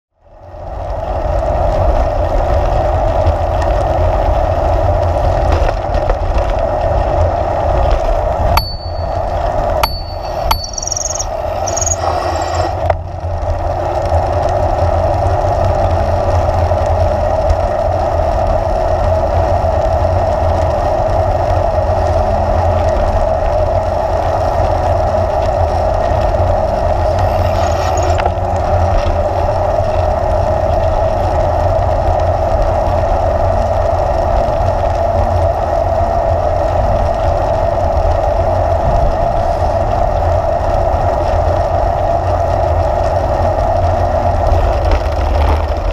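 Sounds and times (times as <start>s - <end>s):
wind rumble on microphone: 0.2s - 10.6s, 11.3s - 45.9s
bicycle tyre and drivetrain hum: 0.2s - 45.9s.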